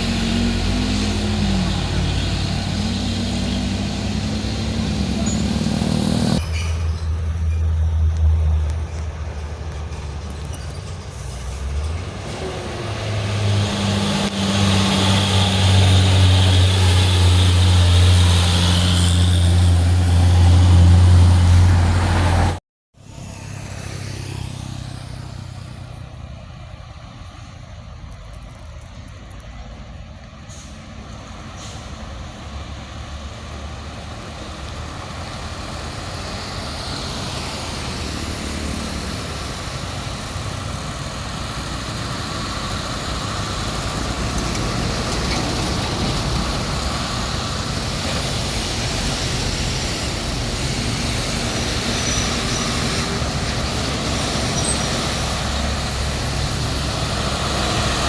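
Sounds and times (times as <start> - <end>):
truck diesel engine droning: 0.0 - 27.6, 30.4 - 58.0
distant road traffic: 0.0 - 58.0.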